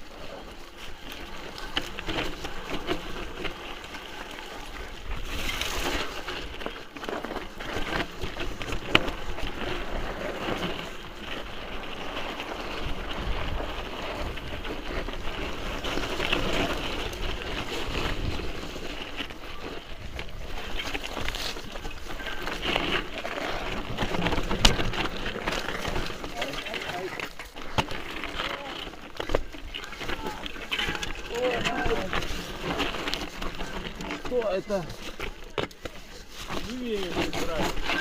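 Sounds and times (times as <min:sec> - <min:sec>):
bicycle tyre noise on trail: 0:00.0 - 0:38.0
bike clicks and rattles: 0:00.0 - 0:38.0.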